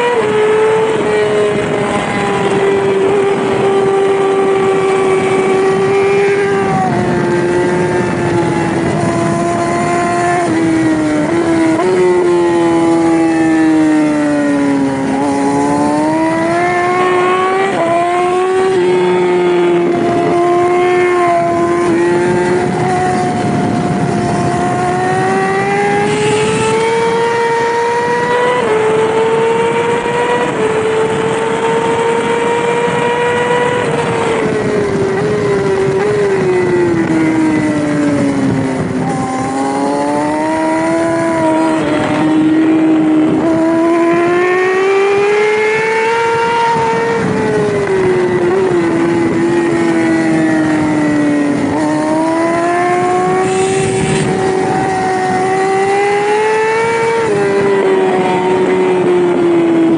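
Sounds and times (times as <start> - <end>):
motorcycle engine at racing revs: 0.0 - 59.9.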